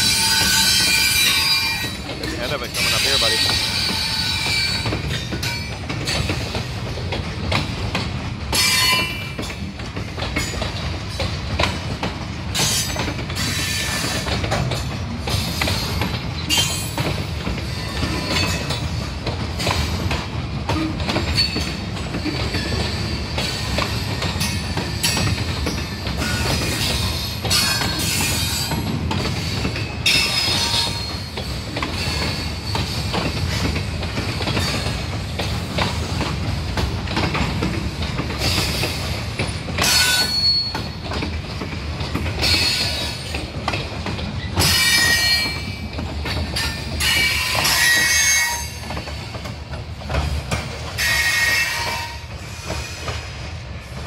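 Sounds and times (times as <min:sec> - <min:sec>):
steel train wheels on rail: 0:00.0 - 0:54.0.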